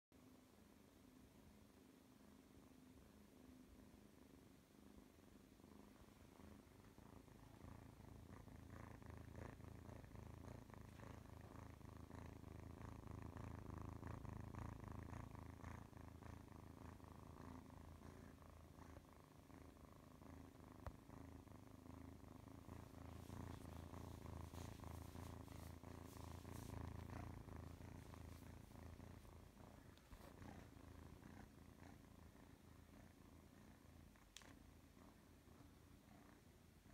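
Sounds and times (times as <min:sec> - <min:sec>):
kitten purring: 0:00.2 - 0:36.9.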